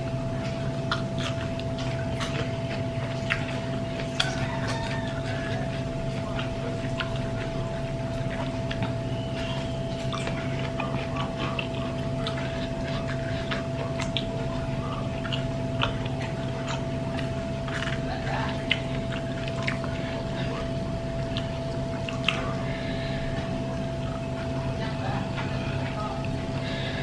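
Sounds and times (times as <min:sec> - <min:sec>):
chewing: 0:00.0 - 0:27.0
electrical hum: 0:00.0 - 0:27.0.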